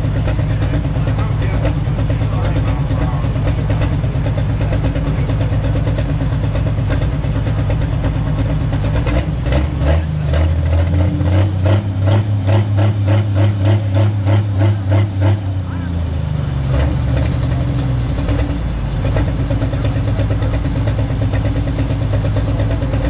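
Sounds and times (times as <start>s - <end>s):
tractor engine idling heavily: 0.0s - 23.0s.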